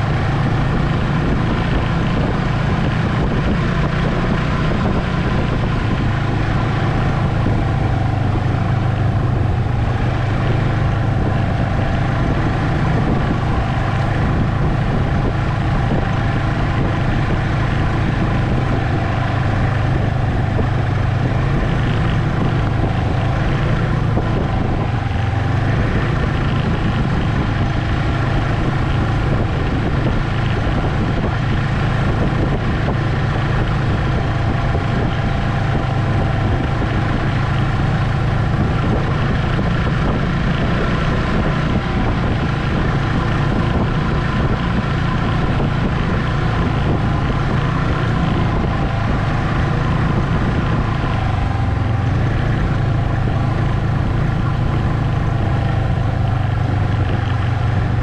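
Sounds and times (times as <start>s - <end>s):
snowmobile engine droning: 0.0s - 58.0s.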